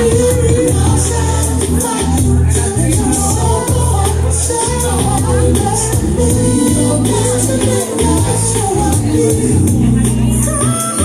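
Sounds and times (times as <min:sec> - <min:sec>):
loud music with bass line: 0:00.0 - 0:11.0
person singing: 0:00.0 - 0:11.0.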